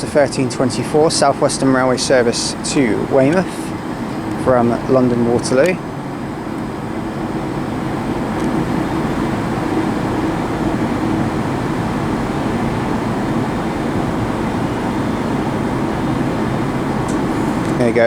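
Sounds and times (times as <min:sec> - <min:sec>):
electric train running: 0:00.0 - 0:18.0.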